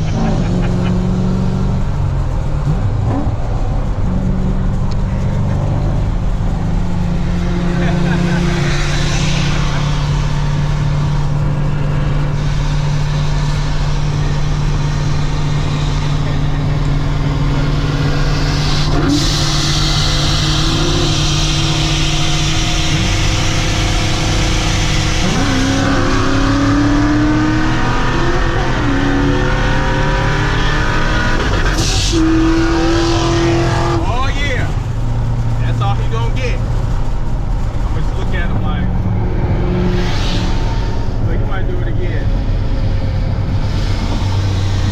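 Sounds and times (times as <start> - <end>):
car engine running: 0.0 - 44.9
road noise: 0.0 - 44.9.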